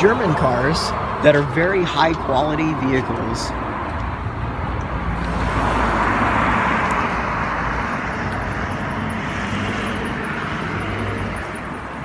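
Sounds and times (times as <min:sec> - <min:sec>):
passing vehicles rushing: 0:00.0 - 0:12.0.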